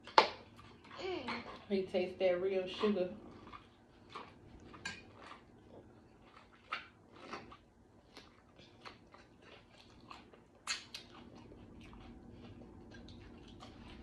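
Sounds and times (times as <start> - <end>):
wet chewing clicks and crunches: 2.7 - 14.0.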